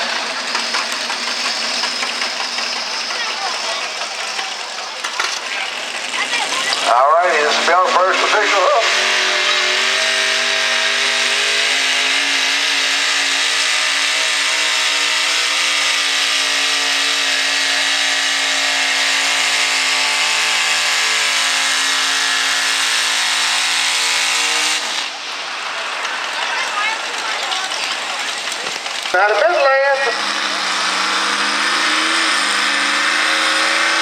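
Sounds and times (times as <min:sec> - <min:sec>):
tractor engine running flat out: 0:00.0 - 0:34.0.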